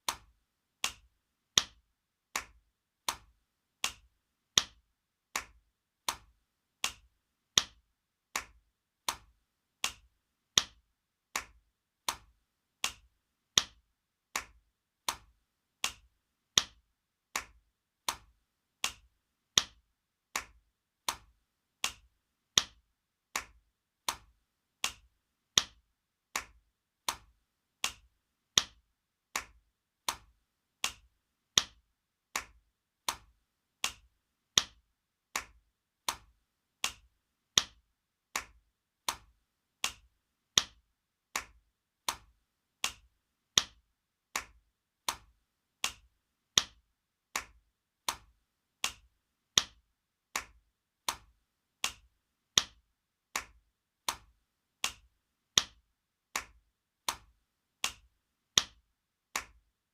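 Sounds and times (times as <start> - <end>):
hand slaps: 0.0 - 34.8, 35.4 - 40.8, 41.4 - 43.8, 44.4 - 46.8, 47.4 - 49.8, 50.4 - 52.8, 53.4 - 55.8, 56.4 - 58.8, 59.4 - 59.6.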